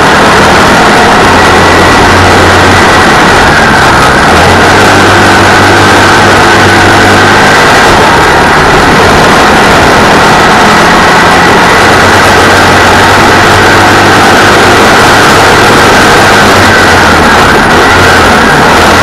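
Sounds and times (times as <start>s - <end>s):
race car engine running hard: 0.0s - 19.0s.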